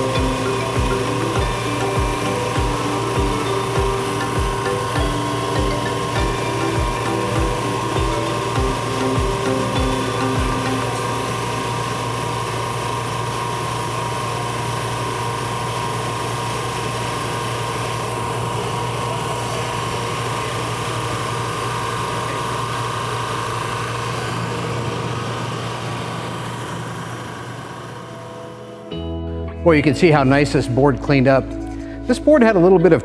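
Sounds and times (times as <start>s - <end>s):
drum sander running: 0.0s - 29.0s.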